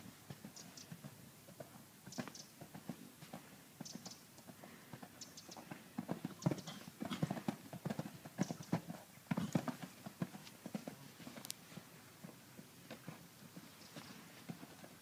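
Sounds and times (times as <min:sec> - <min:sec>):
horse hoofbeats cantering on sand: 0:00.0 - 0:15.0.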